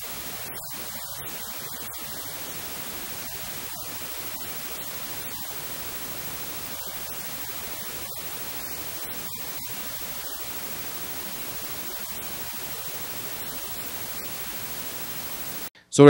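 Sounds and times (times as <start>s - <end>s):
static hiss: 0.0s - 15.7s.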